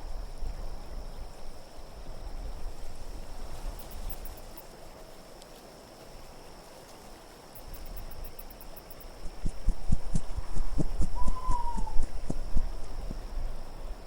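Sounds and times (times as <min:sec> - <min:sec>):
low steady wind: 0:00.0 - 0:14.0.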